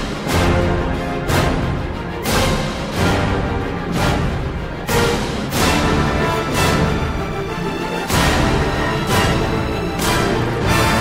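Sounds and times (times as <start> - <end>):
music with heavy accented hits: 0.0 - 11.0.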